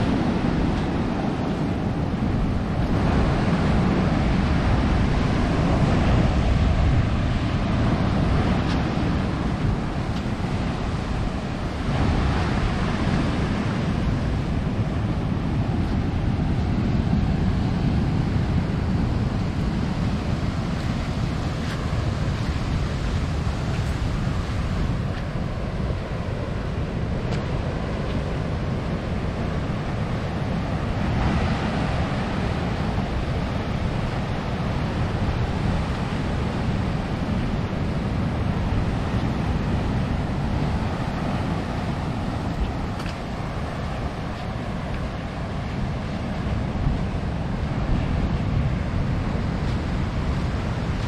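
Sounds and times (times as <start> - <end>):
ocean surf breaking: 0.0 - 51.0
wind buffeting microphone: 0.0 - 51.0.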